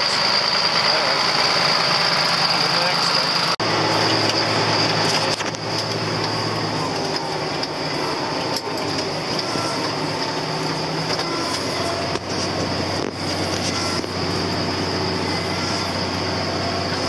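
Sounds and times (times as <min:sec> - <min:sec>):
steady high whine: 0:00.0 - 0:17.0
tractor engine hum: 0:00.0 - 0:17.0.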